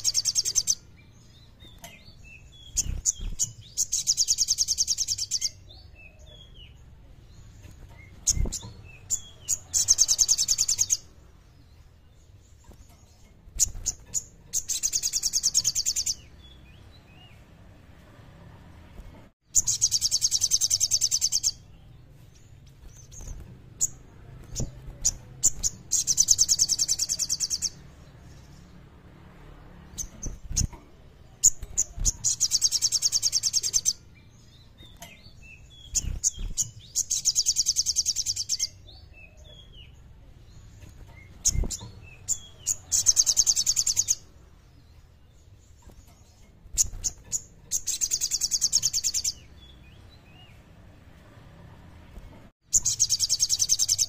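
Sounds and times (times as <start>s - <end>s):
songbird chirps: 0.0s - 54.0s.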